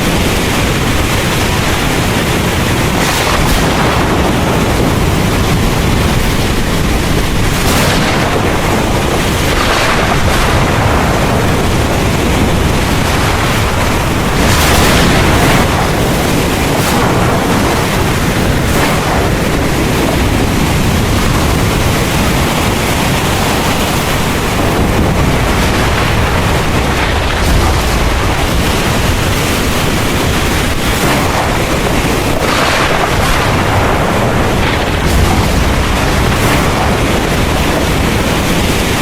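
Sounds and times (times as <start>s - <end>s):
heavy rain pouring: 0.0s - 39.0s
low rumble: 0.0s - 39.0s.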